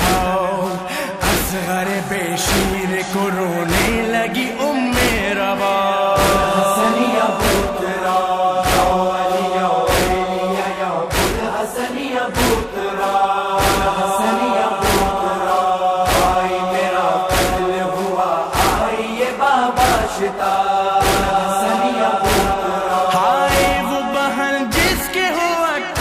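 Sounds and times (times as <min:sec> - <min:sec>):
sharp beat: 0:00.0 - 0:26.0
voices chanting a lament: 0:00.0 - 0:26.0.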